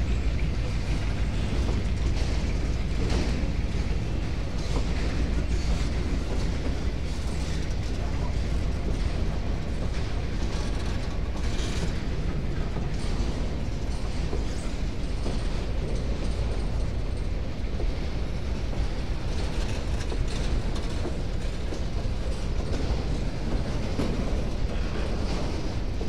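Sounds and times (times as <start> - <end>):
steel wheels rumbling on rails: 0.0 - 26.0.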